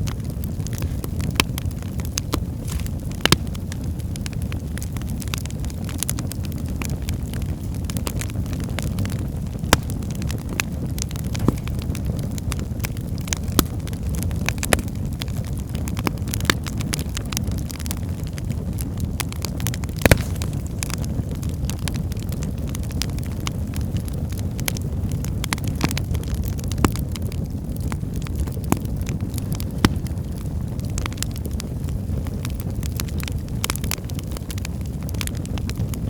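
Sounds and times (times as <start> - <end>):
firewood crackling and popping: 0.0 - 36.0
low rumble of flames: 0.0 - 36.0.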